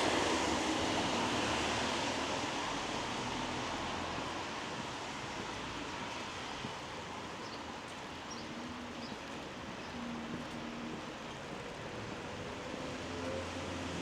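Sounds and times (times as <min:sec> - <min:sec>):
light rain on wet street: 0:00.0 - 0:14.0.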